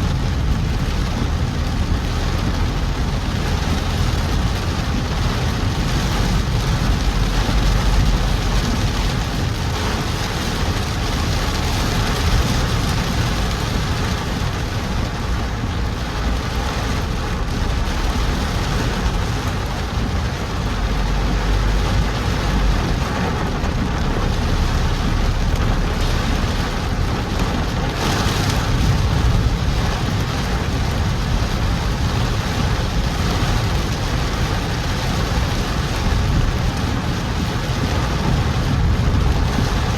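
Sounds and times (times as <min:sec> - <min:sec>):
heavy rain on a car: 0:00.0 - 0:39.9
road and engine rumble: 0:00.0 - 0:39.9.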